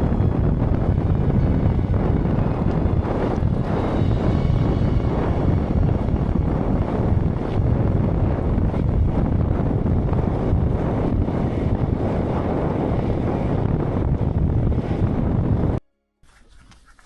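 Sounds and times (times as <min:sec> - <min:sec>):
wind buffeting microphone: 0:00.0 - 0:15.8.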